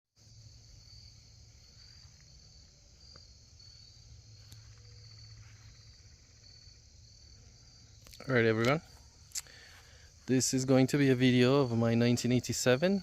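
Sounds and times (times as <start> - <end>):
insects chirring: 0.2 - 13.0.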